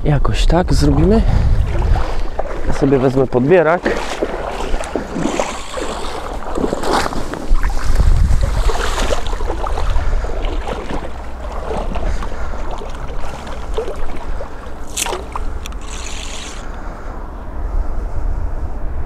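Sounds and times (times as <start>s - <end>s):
wind rumbling on microphone: 0.0s - 19.0s
water sloshing and splashing: 0.7s - 16.8s.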